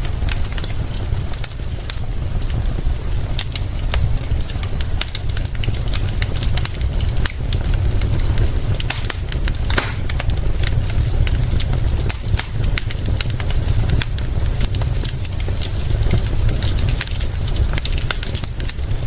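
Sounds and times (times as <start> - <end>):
fire crackling: 0.0 - 19.0
fire popping and snapping: 0.0 - 19.0.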